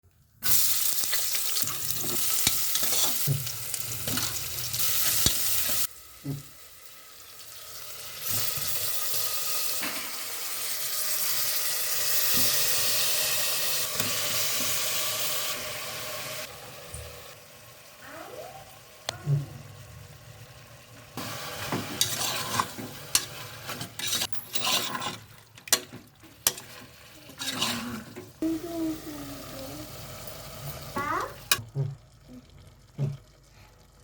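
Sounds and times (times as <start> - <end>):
chicken sizzling in hot oil: 0.3 - 31.6.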